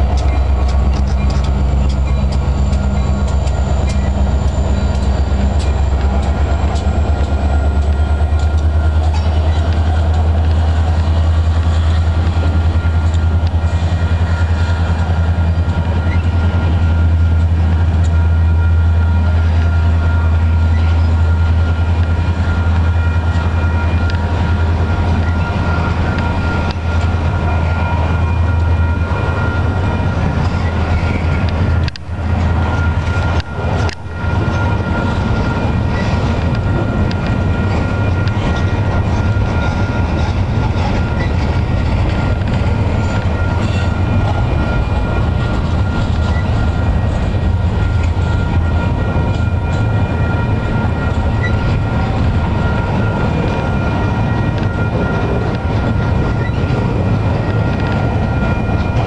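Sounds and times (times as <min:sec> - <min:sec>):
high ringing tone: 0:00.0 - 0:59.0
train wheels rumbling on rails: 0:00.0 - 0:59.0.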